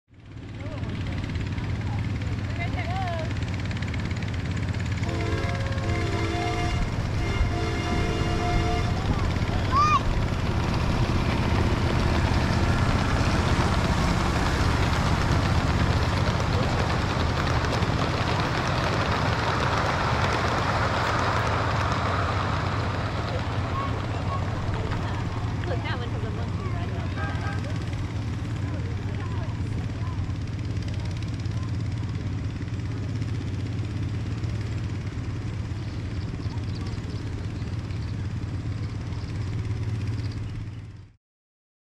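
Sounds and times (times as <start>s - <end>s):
small wheels clicking on track: 0.2s - 41.0s
locomotive engine humming: 0.2s - 41.2s.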